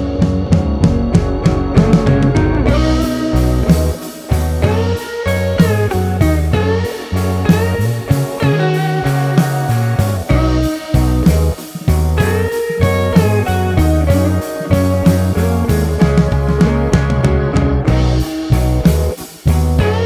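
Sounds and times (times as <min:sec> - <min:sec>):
bass line: 0:00.0 - 0:20.0
drums: 0:00.0 - 0:20.0
slide guitar tune: 0:00.0 - 0:20.0.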